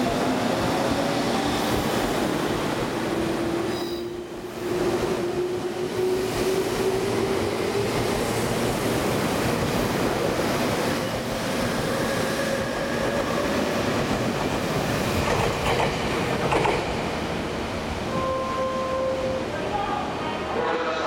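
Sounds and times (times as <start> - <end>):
train wheels rolling on rails: 0.0 - 18.3.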